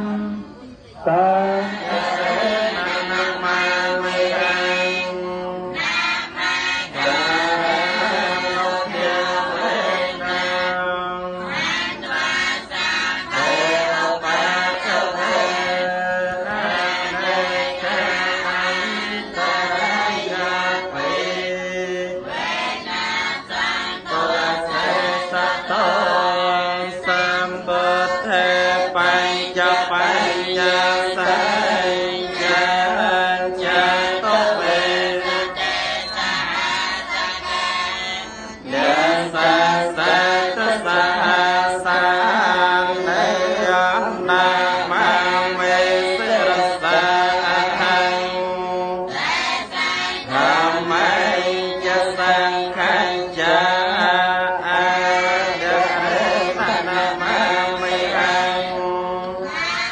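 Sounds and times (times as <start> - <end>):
group of voices chanting: 0.0 - 59.9.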